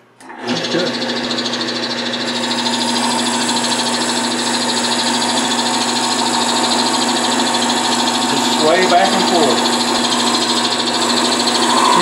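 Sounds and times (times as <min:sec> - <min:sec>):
lathe motor hum: 0:00.2 - 0:12.0
lathe tool cutting wood whir: 0:00.2 - 0:12.0.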